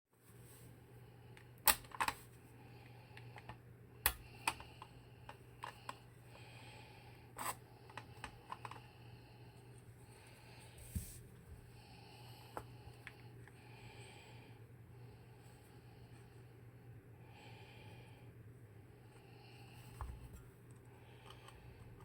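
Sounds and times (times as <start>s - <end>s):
low steady hum: 0.2s - 22.0s.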